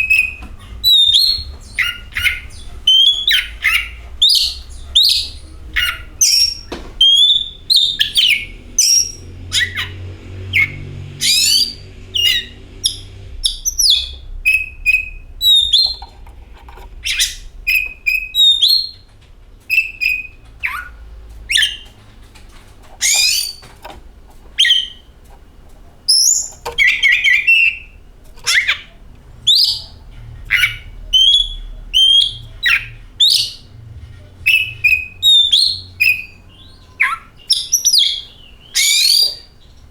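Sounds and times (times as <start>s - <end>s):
bird whistles and chirps: 0.0s - 16.1s, 17.0s - 19.1s, 19.7s - 21.9s, 23.0s - 23.7s, 24.6s - 25.1s, 26.1s - 33.7s, 34.4s - 39.7s
faint low hum: 0.0s - 39.9s.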